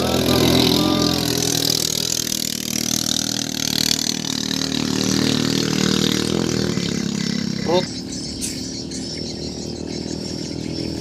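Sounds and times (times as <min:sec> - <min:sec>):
boat engine at full throttle: 0:00.0 - 0:11.0.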